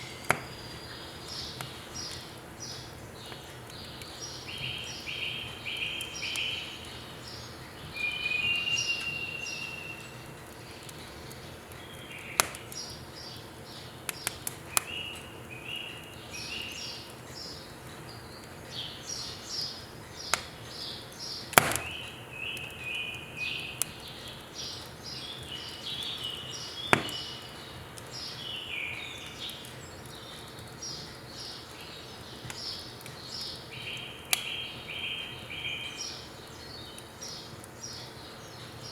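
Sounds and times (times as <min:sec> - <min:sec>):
firewood popping and cracking: 0:00.0 - 0:34.8
small birds chirping: 0:00.0 - 0:38.9.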